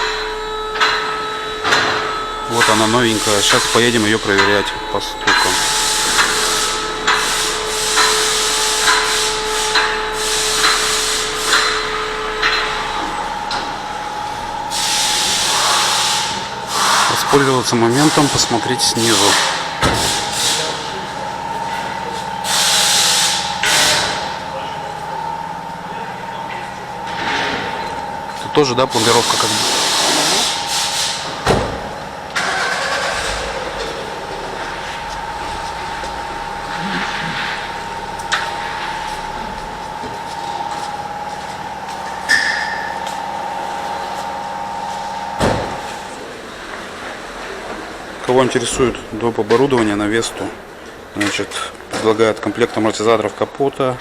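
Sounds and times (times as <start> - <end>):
car engine starting and idling: 0.0 - 54.0
steady machine hum: 0.0 - 54.0.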